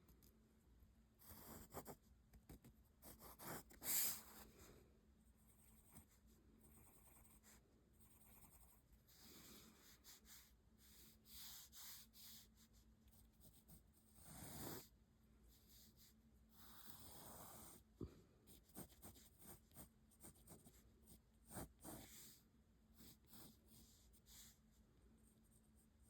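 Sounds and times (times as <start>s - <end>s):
pencil scratching on paper: 1.2s - 4.5s, 5.4s - 24.7s.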